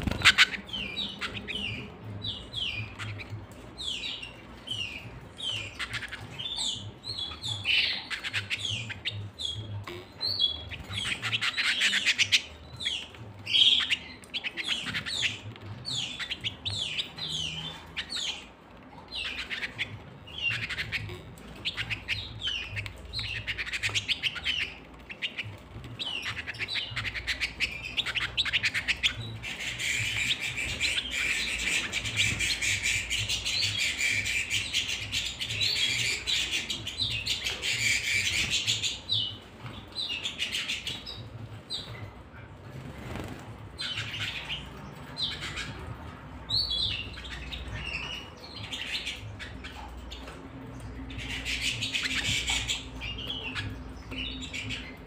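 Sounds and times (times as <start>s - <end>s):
canaries chirping: 0.0s - 55.0s
canary trilling song: 0.0s - 55.0s.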